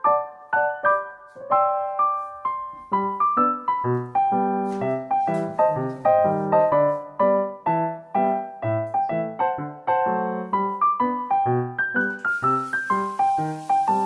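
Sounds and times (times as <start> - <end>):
low piano bass notes: 0.0 - 14.0
piano melody: 0.0 - 14.0.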